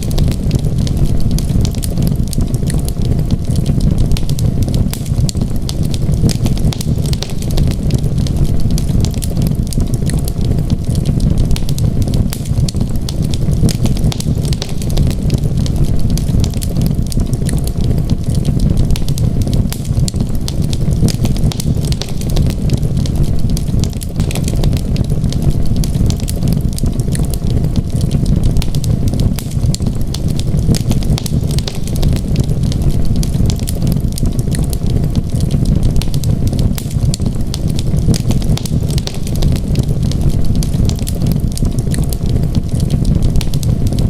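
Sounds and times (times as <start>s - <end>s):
fire crackling: 0.0s - 44.0s
low rumble: 0.0s - 44.0s.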